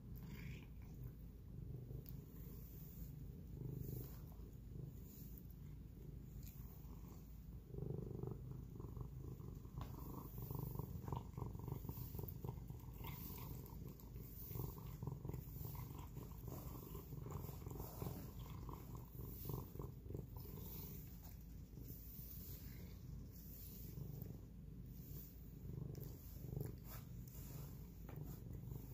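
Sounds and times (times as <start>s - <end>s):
cat licking and eating: 0.0s - 28.9s
cat purring: 0.0s - 28.9s.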